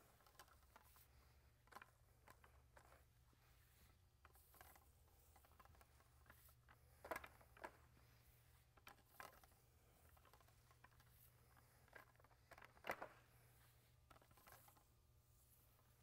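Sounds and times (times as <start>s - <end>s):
low steady room hum: 0.0s - 16.0s.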